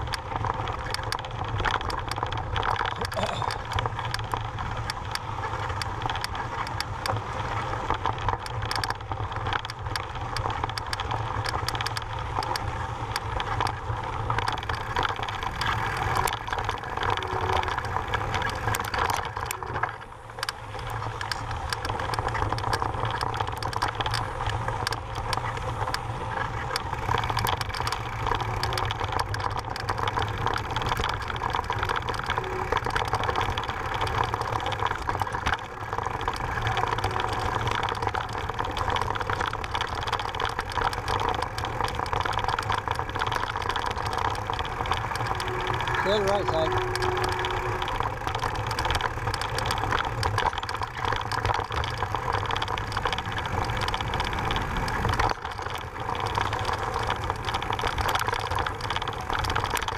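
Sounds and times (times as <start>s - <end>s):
bike rattling and clicking: 0.0s - 59.9s.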